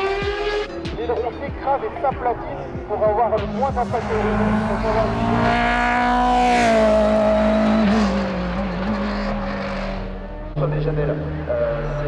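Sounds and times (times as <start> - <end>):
racing car engine passing: 0.0 - 12.0.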